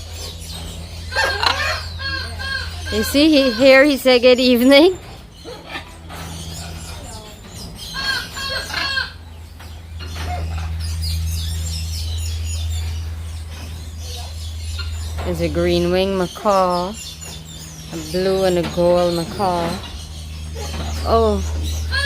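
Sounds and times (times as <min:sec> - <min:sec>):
birds calling: 0:00.0 - 0:22.0
steady low hum: 0:00.0 - 0:22.0.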